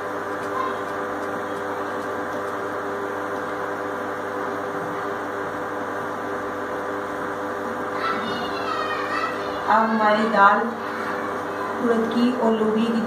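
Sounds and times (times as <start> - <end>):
cooktop fan whirring: 0.0 - 13.0
multi-tone electrical hum: 0.0 - 13.0.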